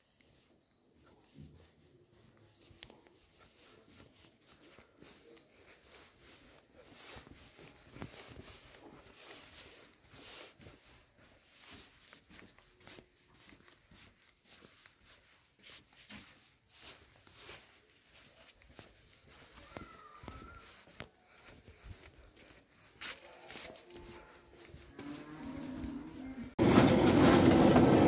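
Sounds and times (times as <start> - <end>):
faint footsteps on dirt path: 0.0 - 27.9.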